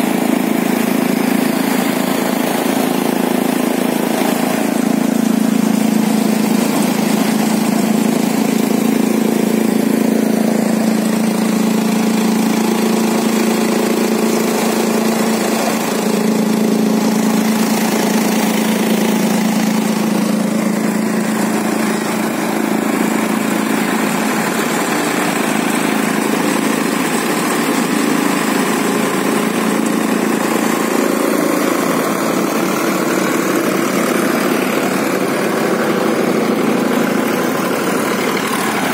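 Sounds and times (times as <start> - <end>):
crop thresher running: 0.0 - 38.9
tractor diesel engine running: 0.0 - 38.9.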